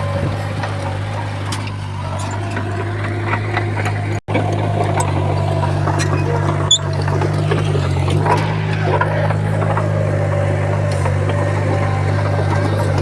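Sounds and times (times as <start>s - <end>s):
diesel machine engine running: 0.0s - 13.0s.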